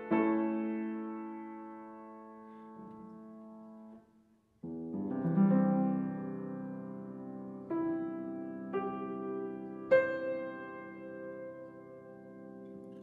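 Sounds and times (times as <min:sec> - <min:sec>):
solo piano chords: 0:00.0 - 0:13.0.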